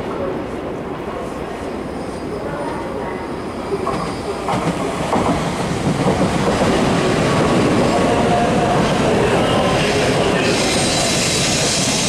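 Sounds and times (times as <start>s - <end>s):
train wheel and running noise: 0.0s - 12.0s.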